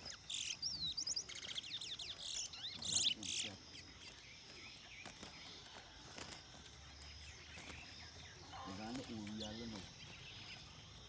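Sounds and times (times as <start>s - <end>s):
songbird chirping and whistling: 0.0s - 11.0s.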